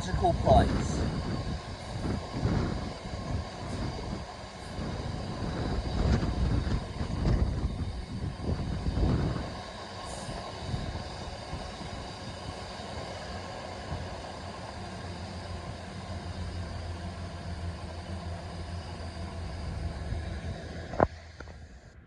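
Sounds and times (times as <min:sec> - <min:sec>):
freight train rumbling past: 0:00.0 - 0:21.4
low hum: 0:00.0 - 0:22.0.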